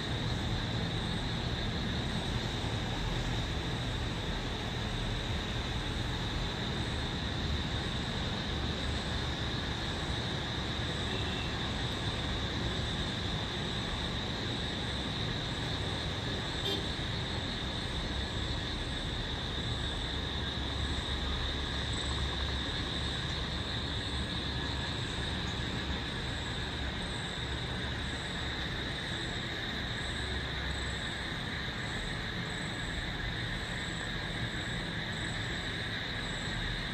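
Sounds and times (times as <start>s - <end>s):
distant road traffic rumble: 0.0s - 36.9s
night insects chorus: 0.0s - 36.9s.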